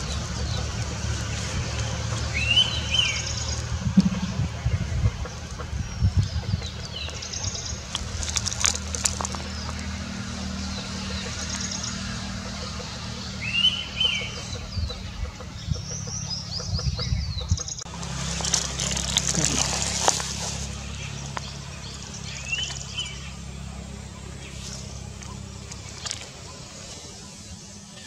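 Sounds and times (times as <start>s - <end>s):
low steady rumble: 0.0s - 27.8s
small birds chirping and trilling: 0.0s - 28.0s.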